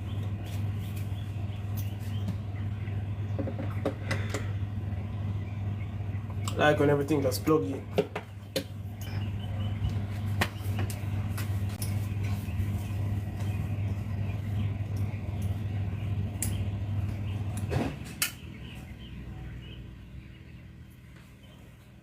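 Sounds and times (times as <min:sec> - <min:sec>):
amplifier hum: 0:00.0 - 0:22.0.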